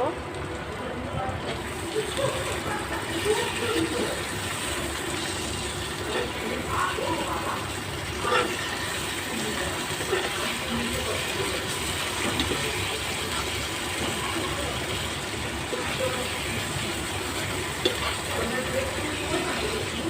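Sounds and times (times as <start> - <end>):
food sizzling in oil: 1.5 - 20.0.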